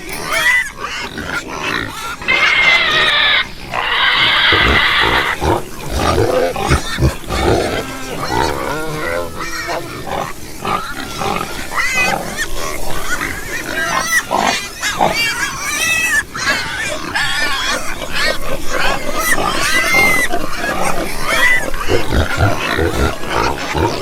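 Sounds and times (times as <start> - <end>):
pigs grunting: 0.0 - 24.0
pigs squealing: 0.0 - 24.0.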